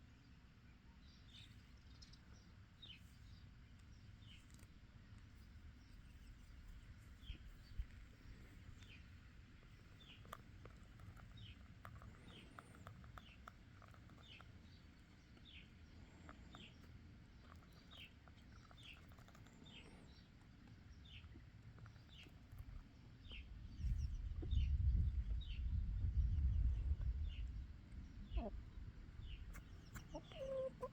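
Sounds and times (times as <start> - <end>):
bird chirping: 0.1 - 4.7, 5.7 - 30.9.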